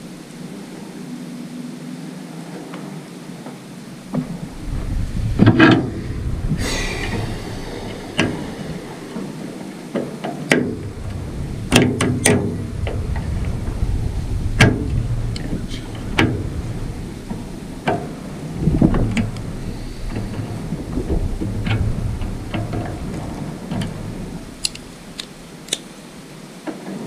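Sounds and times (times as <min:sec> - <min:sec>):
steady low rumble: 0:03.0 - 0:26.6.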